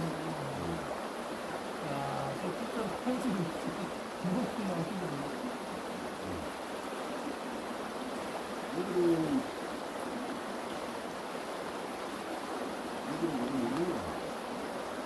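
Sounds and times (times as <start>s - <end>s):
stream water running: 0.0s - 15.0s.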